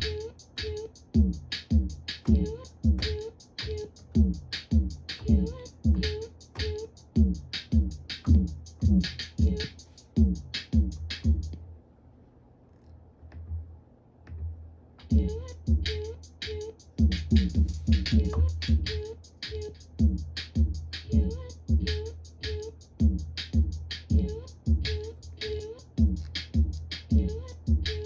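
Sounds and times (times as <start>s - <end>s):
electronic drum beat: 0.0s - 11.6s, 15.0s - 28.0s.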